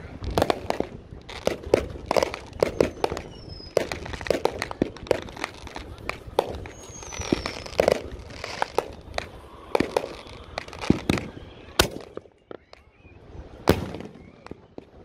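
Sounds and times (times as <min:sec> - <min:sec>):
fireworks bangs and pops: 0:00.0 - 0:15.0
firework falling whistle: 0:00.5 - 0:15.0.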